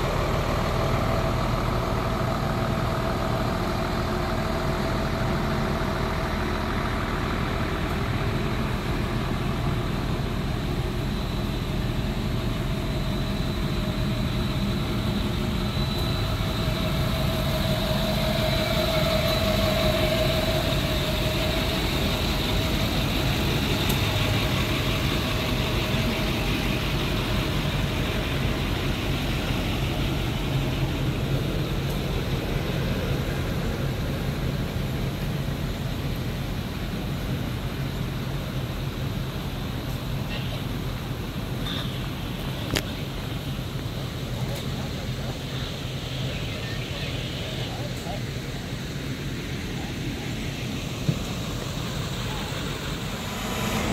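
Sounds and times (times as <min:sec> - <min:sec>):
vehicle engines idling: 0:00.0 - 0:53.9.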